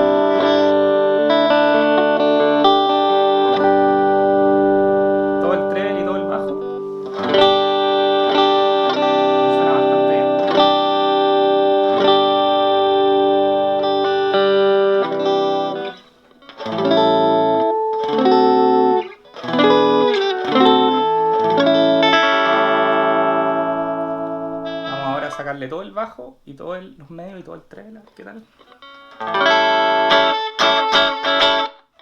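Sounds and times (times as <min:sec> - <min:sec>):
electric guitar chords: 0:00.0 - 0:25.5, 0:28.6 - 0:32.0.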